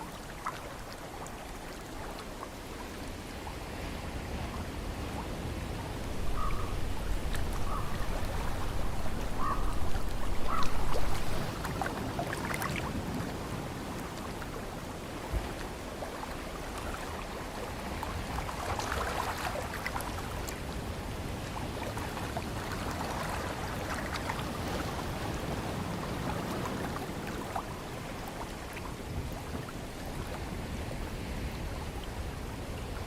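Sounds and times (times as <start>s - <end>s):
ocean surf waves: 0.0s - 33.0s.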